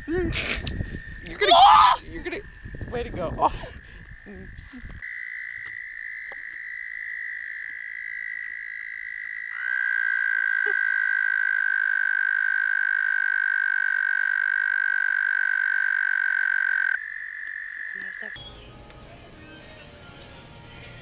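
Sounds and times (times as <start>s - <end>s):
frogs trilling: 0.0s - 18.5s.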